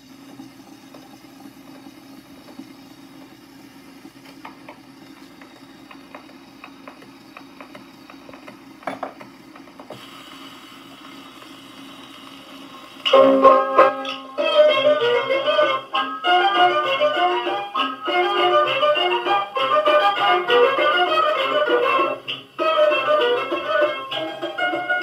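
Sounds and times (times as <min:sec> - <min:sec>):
gramophone mechanical hum: 0:00.0 - 0:25.0
needle hiss in record groove: 0:02.3 - 0:25.0.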